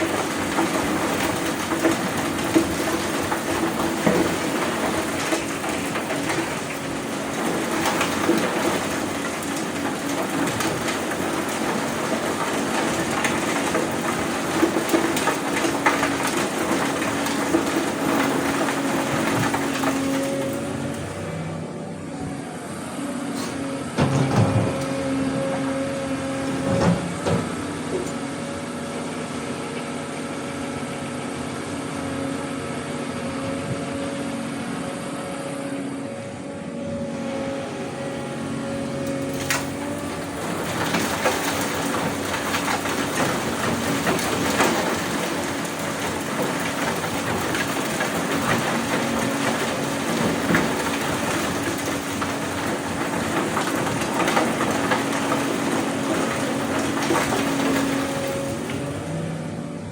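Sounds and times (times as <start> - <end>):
excavator engine humming: 0.0 - 59.9.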